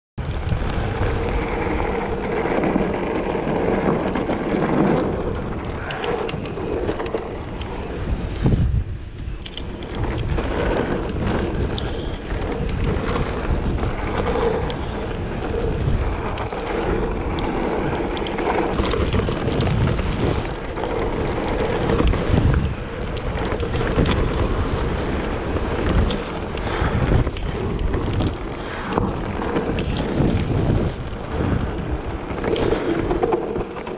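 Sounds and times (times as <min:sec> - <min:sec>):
bike tyres rumbling on gravel: 0:00.2 - 0:33.9
wind buffeting microphone: 0:00.2 - 0:33.9.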